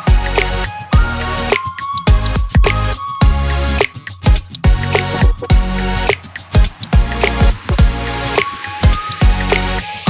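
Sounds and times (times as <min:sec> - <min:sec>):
hip-hop music with heavy beat: 0:01.6 - 0:09.9.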